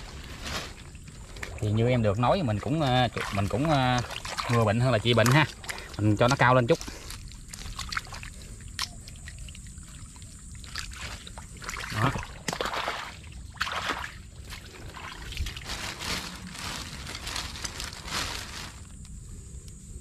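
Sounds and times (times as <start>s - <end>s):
hands splashing in muddy water: 0.4s - 18.6s.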